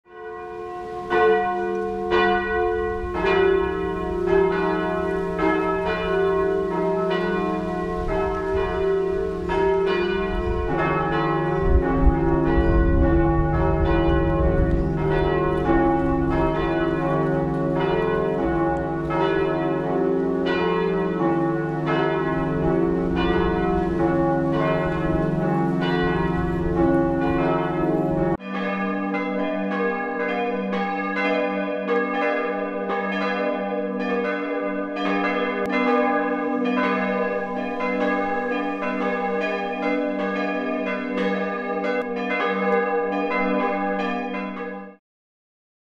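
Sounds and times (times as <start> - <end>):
church bells pealing: 0.1 - 45.0.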